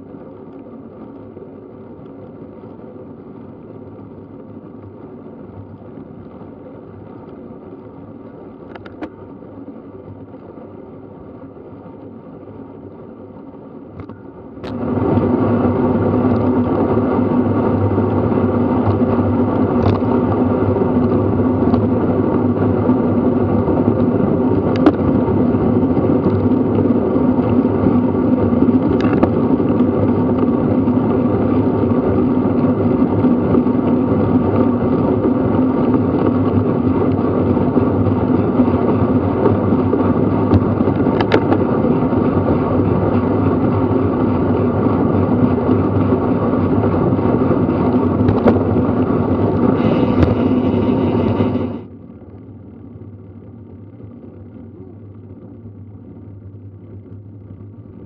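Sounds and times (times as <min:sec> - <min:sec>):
wind rushing over microphone: 0:00.0 - 0:51.9
bicycle tyre noise: 0:00.0 - 0:55.4.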